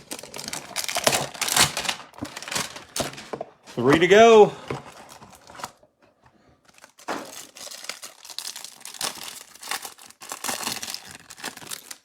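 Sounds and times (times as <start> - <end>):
card packaging tearing and crinkling: 0.0 - 5.8, 6.7 - 12.0.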